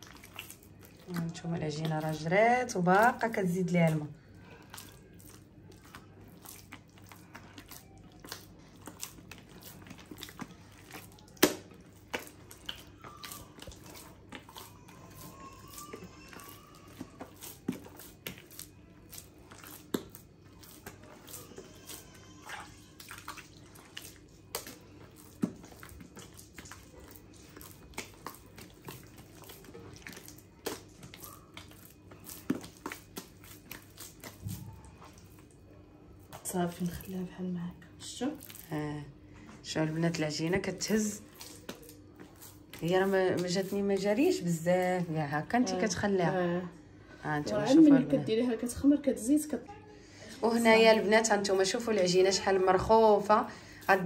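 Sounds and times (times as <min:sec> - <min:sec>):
hands kneading wet dough: 0:00.0 - 0:46.7, 0:50.2 - 0:54.0.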